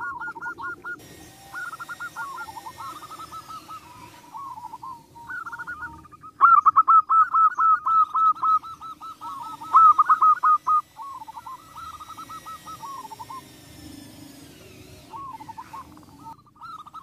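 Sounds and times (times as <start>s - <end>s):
dove cooing: 0.0s - 13.7s, 14.6s - 17.0s.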